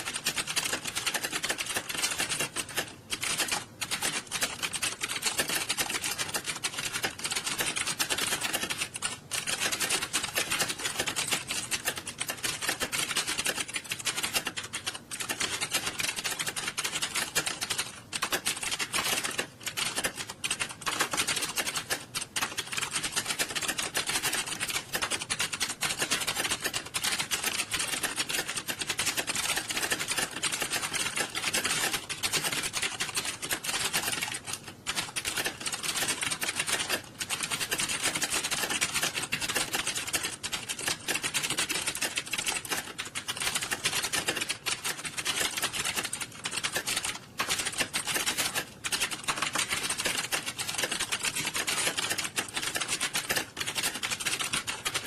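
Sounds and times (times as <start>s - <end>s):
many keyboards clattering: 0.0s - 55.0s.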